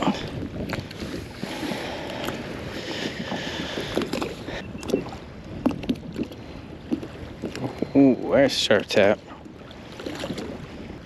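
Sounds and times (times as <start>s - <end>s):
water lapping against kayak hull: 0.0s - 11.0s
wind on microphone: 0.0s - 11.0s.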